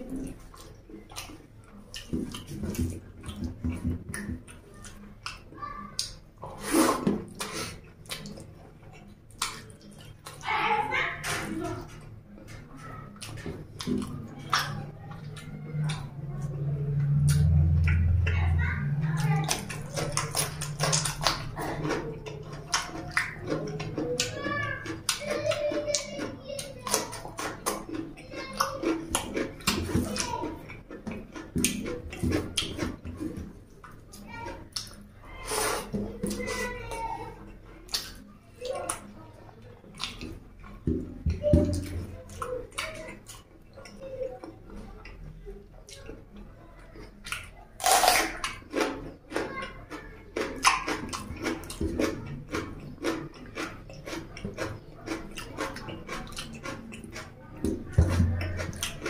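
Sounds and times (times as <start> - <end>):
wet chewing and lip-smacking: 0.0 - 59.0.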